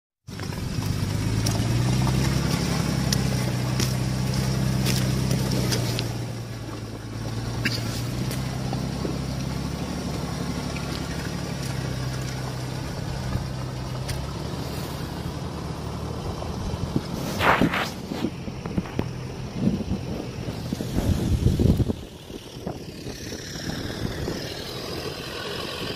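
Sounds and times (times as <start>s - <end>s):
suv engine running: 0.2s - 25.9s.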